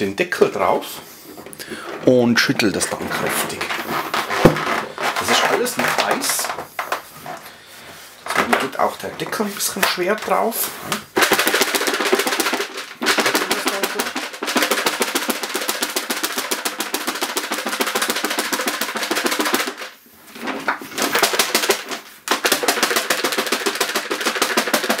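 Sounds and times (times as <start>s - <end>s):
popcorn rattling in plastic bowl: 0.0s - 25.0s.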